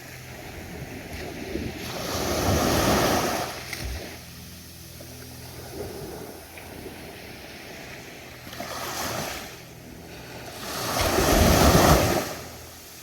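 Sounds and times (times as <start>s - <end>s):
ocean waves breaking on beach: 0.0s - 4.4s, 5.4s - 13.0s.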